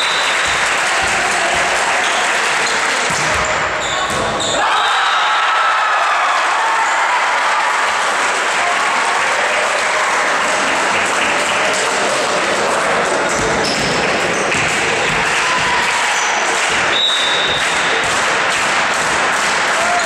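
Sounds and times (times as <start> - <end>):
crowd applauding and cheering: 0.0 - 3.8, 4.6 - 20.0.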